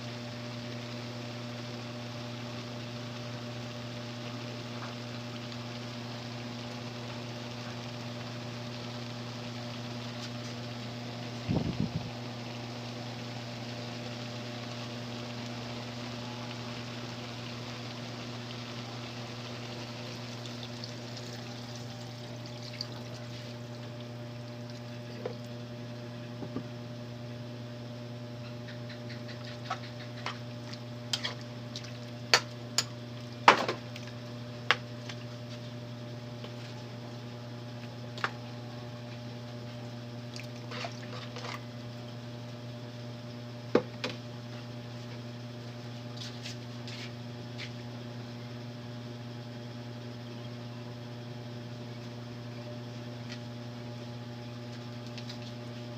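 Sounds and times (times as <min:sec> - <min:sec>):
stew simmering in a pot: 0:00.0 - 0:25.8, 0:28.4 - 0:55.9.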